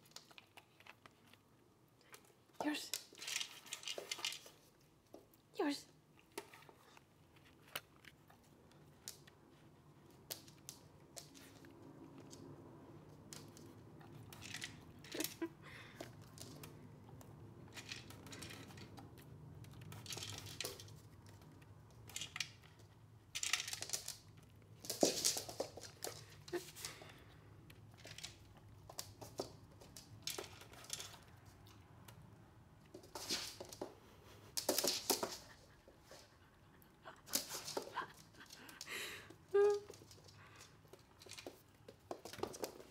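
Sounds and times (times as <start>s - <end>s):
puppy crunching kibble: 0.0s - 5.4s, 6.1s - 42.9s.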